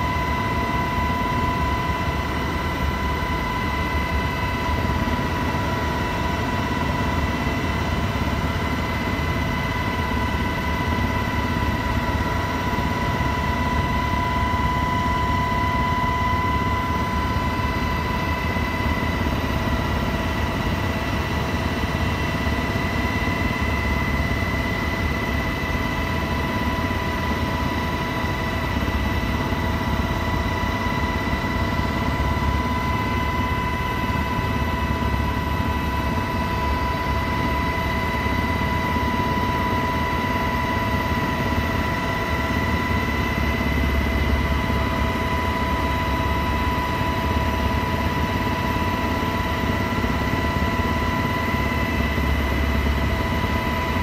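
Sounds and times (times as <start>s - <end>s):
helicopter engine high whine: 0.0s - 54.0s
helicopter low rumble: 0.0s - 54.0s.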